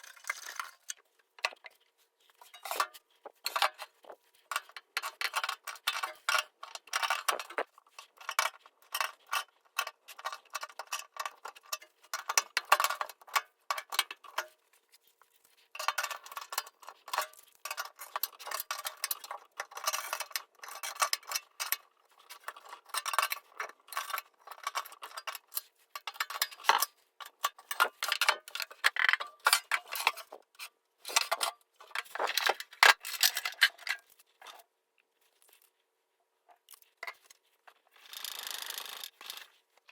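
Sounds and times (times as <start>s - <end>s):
small metallic clicks and taps: 2.4s - 14.6s, 15.7s - 35.7s.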